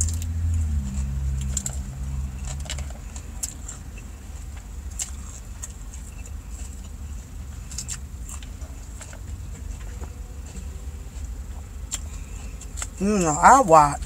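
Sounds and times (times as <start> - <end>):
low car interior hum: 0.0 - 14.0.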